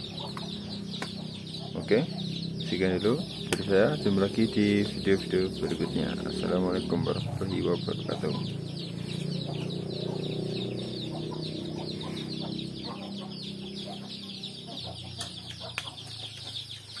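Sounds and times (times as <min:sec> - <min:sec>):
chickens clucking: 0:00.0 - 0:17.0
high chirping: 0:00.0 - 0:17.0.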